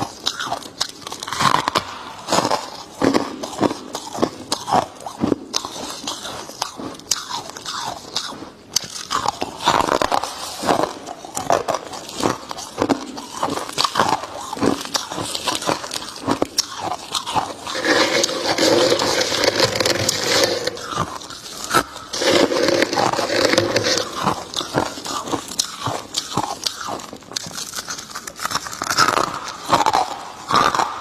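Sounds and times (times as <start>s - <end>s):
crunching frost being chewed: 0.0s - 31.0s.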